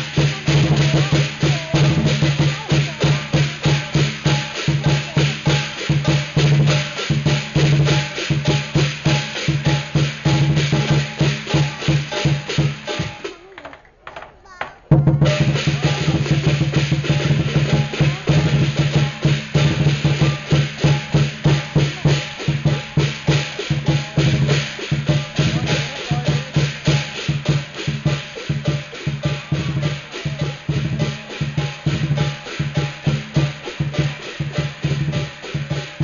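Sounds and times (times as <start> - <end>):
large drum beating fast: 0.0 - 13.6, 14.6 - 36.0
other percussion: 0.0 - 36.0.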